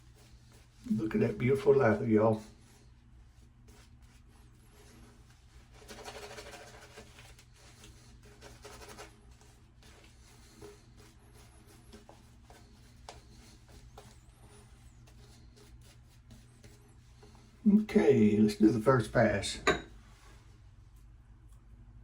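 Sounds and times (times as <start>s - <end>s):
shaving brush swishing lather: 0.0s - 18.9s.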